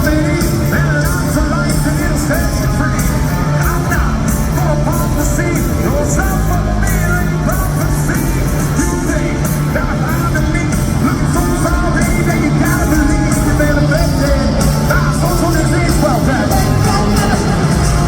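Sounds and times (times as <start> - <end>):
hard rock band playing live: 0.0 - 18.0
lead vocal singing: 0.0 - 18.0.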